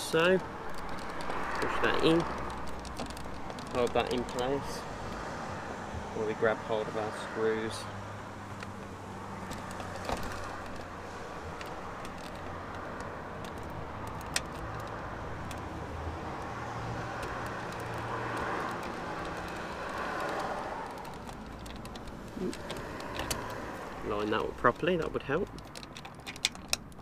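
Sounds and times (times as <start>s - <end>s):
plastic door handle parts clicking: 0.2s - 5.2s, 8.6s - 24.0s, 24.8s - 27.0s.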